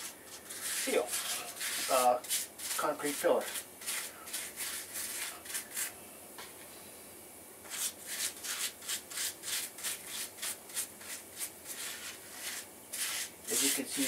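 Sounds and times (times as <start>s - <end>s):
brush scrubbing concrete: 0.0s - 5.9s, 7.7s - 14.0s.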